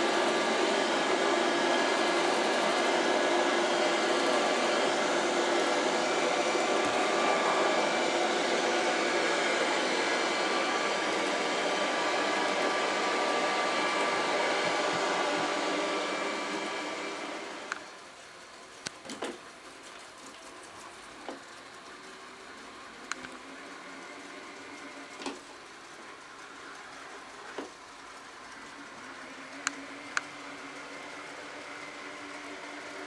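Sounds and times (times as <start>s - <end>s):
robot vacuum cleaner whirring: 0.0s - 33.0s.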